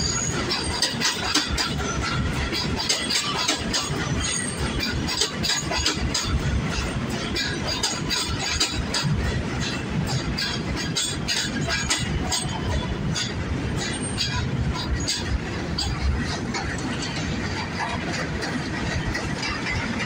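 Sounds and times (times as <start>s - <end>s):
subway train rumbling past: 0.0s - 20.0s
wheels clacking on rails: 0.0s - 20.0s.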